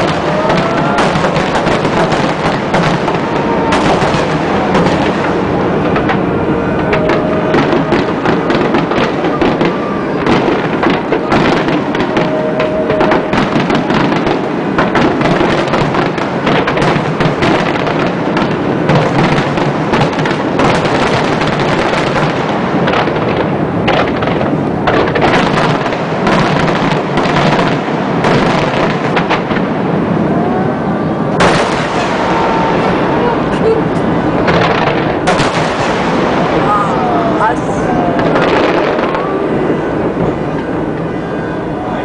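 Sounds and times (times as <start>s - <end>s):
loud firework bang: 0.0s - 30.0s, 31.3s - 41.2s
fireworks bursting and crackling: 0.0s - 42.0s.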